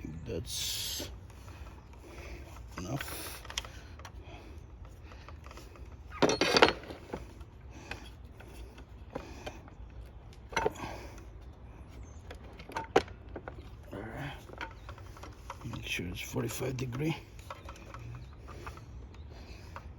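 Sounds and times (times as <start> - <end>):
quiet handling noises: 0.3 - 19.9
saw rattling clatter: 1.3 - 11.2, 12.2 - 19.9.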